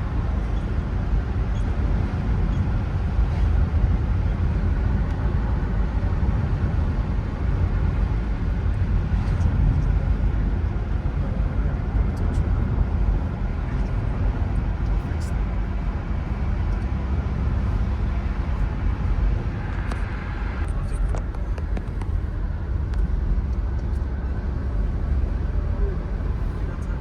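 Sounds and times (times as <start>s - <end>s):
low rumbling noise: 0.0s - 27.0s.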